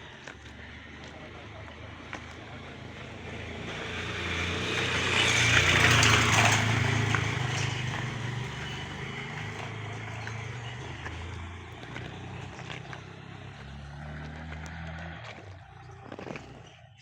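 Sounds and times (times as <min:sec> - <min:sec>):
tyre noise: 0:00.0 - 0:17.0
vehicle engine hum: 0:00.0 - 0:17.0.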